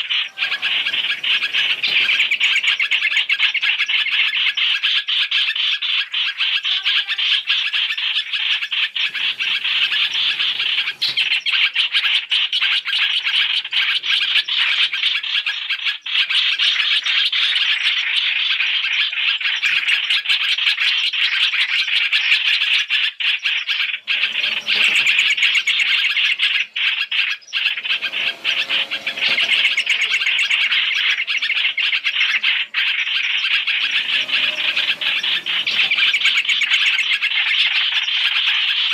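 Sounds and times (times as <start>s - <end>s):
starlings chattering: 0.0s - 38.9s.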